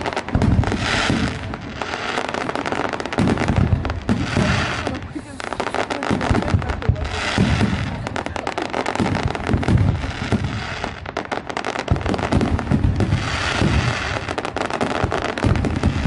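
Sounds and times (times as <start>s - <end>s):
deep firework booms: 0.0s - 16.0s
fireworks crackling and popping: 0.0s - 16.0s.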